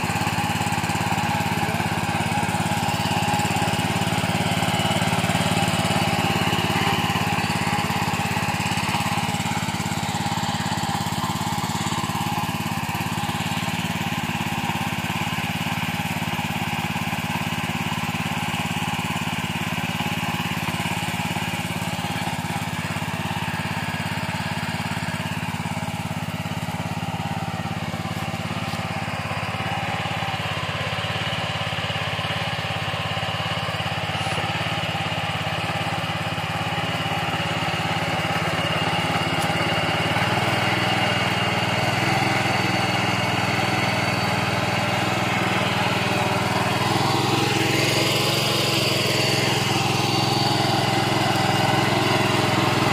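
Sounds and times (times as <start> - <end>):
small diesel engine running: 0.0 - 52.9.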